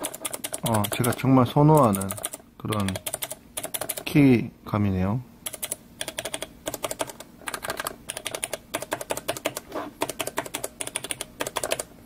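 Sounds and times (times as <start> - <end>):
mechanical keyboard clicking: 0.0 - 4.1, 5.5 - 11.9.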